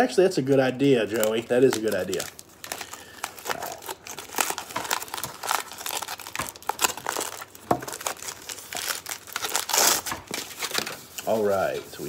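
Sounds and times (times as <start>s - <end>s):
foil crinkling: 0.4s - 12.0s.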